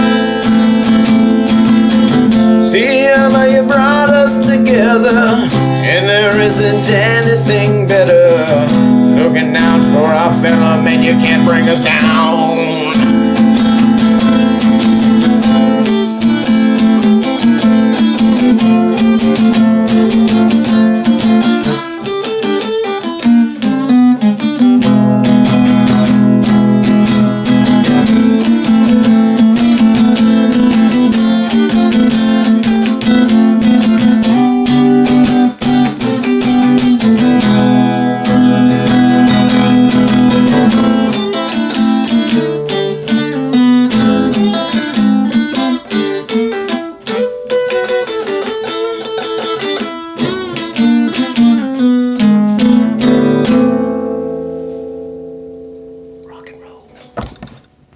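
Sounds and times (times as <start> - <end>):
strummed acoustic guitar: 0.0 - 57.9.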